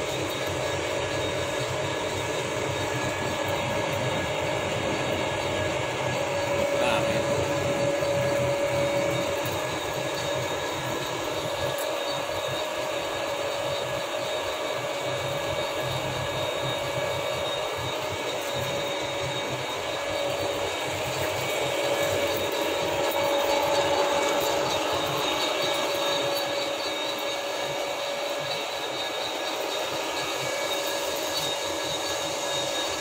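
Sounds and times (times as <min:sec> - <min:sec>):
lathe humming with whine: 0:00.0 - 0:33.0.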